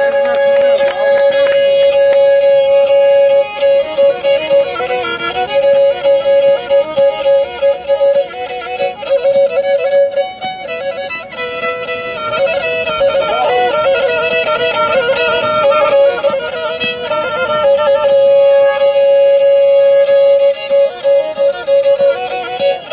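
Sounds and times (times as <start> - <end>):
bowed fiddle playing fast tune: 0.0 - 22.9.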